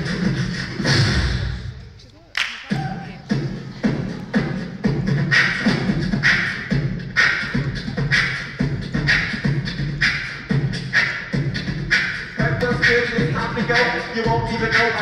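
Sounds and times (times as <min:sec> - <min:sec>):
beatboxing into a microphone: 0:00.0 - 0:01.2, 0:02.6 - 0:15.0.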